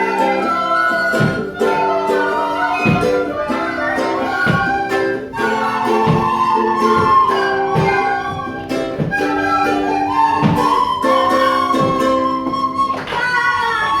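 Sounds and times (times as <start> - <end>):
accompaniment with steady beat: 0.0 - 14.0
children playing recorders: 0.0 - 14.0.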